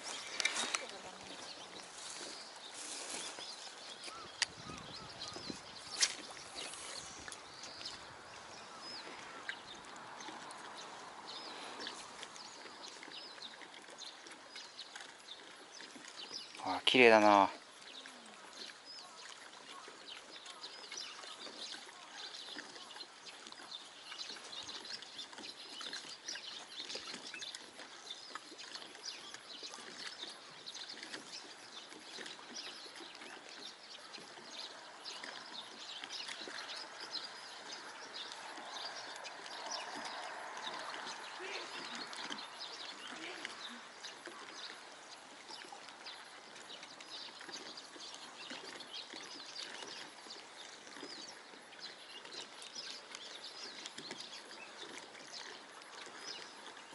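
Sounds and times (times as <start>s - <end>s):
small waves lapping against wall: 0.0s - 56.9s.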